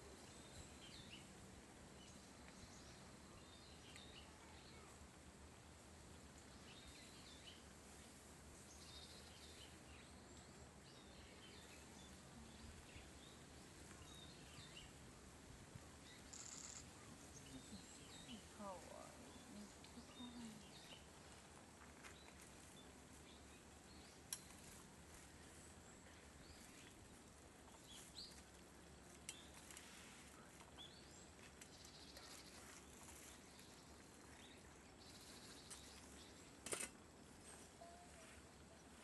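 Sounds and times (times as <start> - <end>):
small birds chirping: 0.0 - 5.1, 6.4 - 15.3, 15.9 - 39.0.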